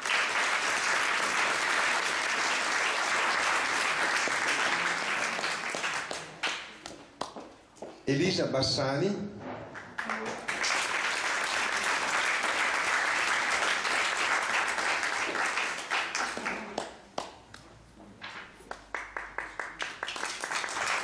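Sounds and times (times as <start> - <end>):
audience applauding: 0.0 - 7.4, 9.8 - 17.6, 18.6 - 21.0.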